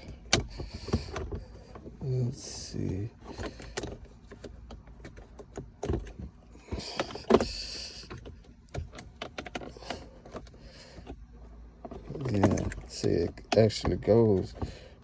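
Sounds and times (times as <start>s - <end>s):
plastic trim clicks and knocks: 0.0s - 2.0s, 2.9s - 11.2s, 11.8s - 14.8s
plastic scraping on plastic: 0.0s - 15.0s.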